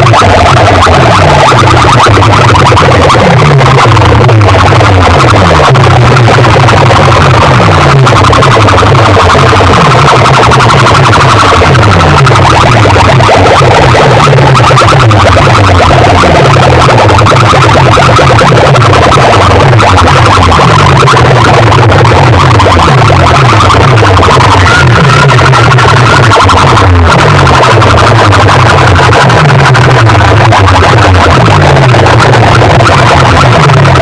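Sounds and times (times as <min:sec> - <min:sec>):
loud distorted bass-heavy dance music: 0:00.0 - 0:34.0.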